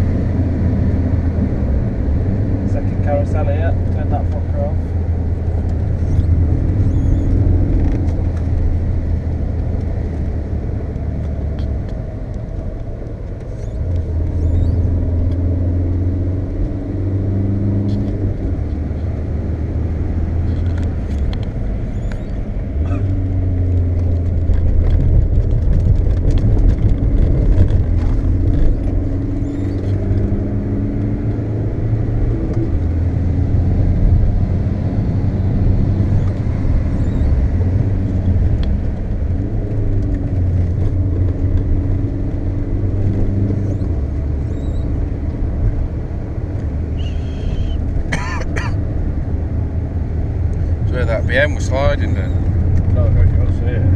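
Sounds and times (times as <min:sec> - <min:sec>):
car engine drone inside cabin: 0:00.0 - 0:53.9
road noise: 0:00.0 - 0:53.9.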